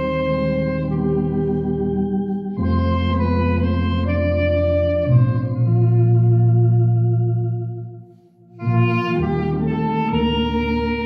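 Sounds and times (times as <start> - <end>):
clarinet melody: 0.0 - 11.0
electronic organ chords: 0.0 - 11.0.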